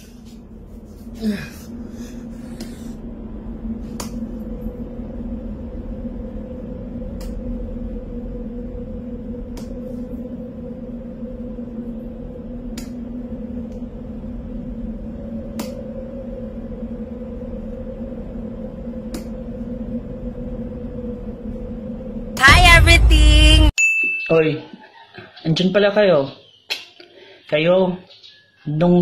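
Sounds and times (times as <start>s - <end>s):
steady low hum: 0.0s - 23.7s.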